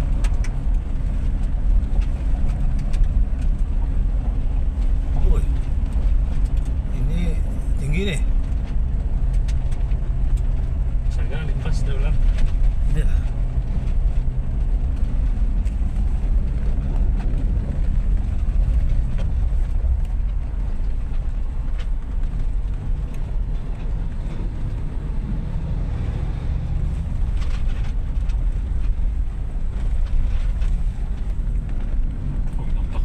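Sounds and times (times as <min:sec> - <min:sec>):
vehicle engine and tyres rumbling: 0:00.0 - 0:33.0.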